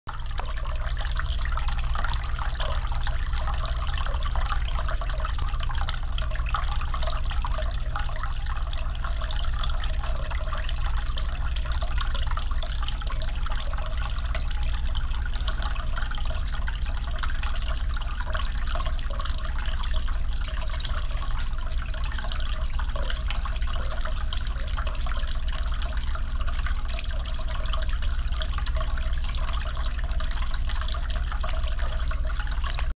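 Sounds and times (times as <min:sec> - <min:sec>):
fountain water trickling: 0:00.1 - 0:32.9.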